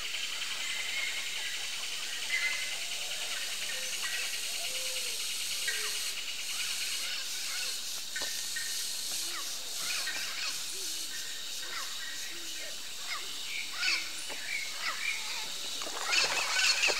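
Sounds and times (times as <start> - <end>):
chirping and whistled animal calls: 0.0 - 16.9
steady high hiss: 0.0 - 16.9.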